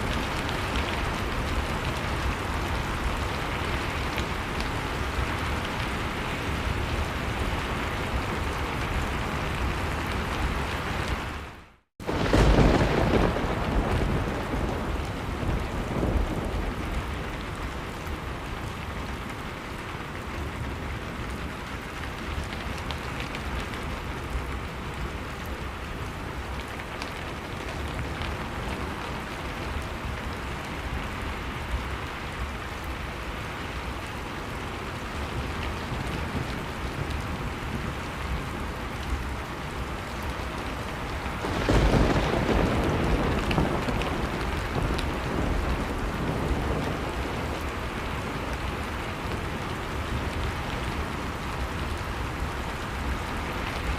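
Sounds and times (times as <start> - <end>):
wood fire crackling: 0.0 - 12.3, 14.4 - 53.9
storm wind rumbling: 0.0 - 53.9.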